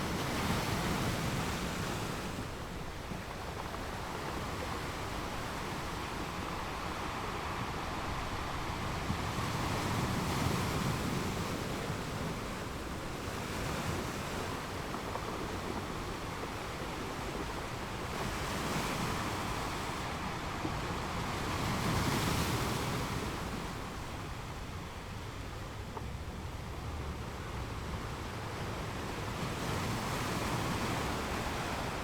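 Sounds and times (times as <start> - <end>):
ocean waves washing onto beach: 0.0 - 32.0.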